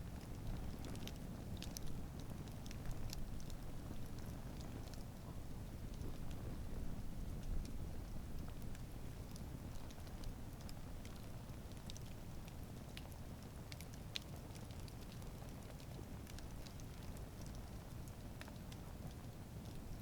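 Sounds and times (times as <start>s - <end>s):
burning wood crackling and popping: 0.0s - 20.0s
campfire flames rumbling: 0.0s - 20.0s.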